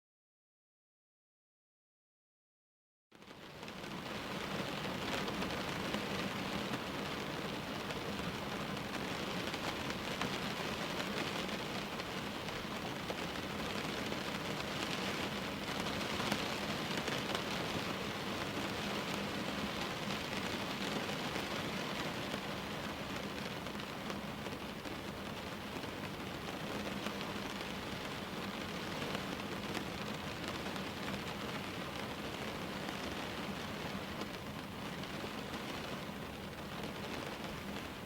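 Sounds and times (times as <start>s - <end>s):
rain falling: 3.2s - 38.0s
raindrops ticking on window: 3.2s - 38.0s.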